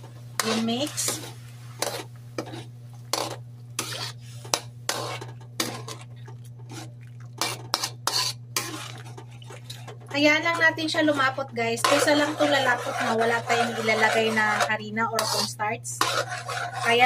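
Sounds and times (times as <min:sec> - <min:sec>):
metal spoon scraping a wok: 0:00.4 - 0:06.1, 0:06.7 - 0:17.0.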